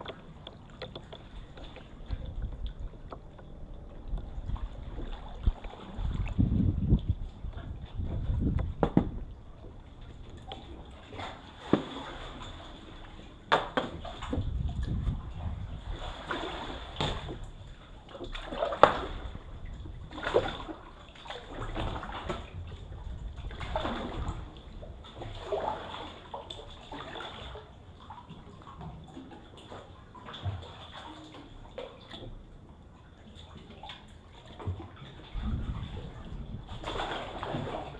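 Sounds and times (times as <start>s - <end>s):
sea water splashing against rock: 0.0s - 32.4s, 33.6s - 37.9s.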